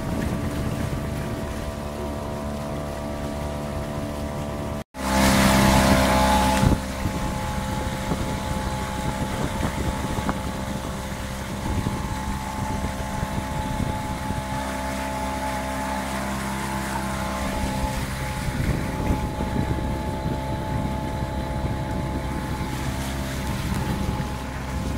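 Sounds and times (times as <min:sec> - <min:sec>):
wind noise: 0:00.0 - 0:04.8, 0:05.4 - 0:24.9
outboard motor running: 0:00.0 - 0:24.9
water noise: 0:00.0 - 0:24.9.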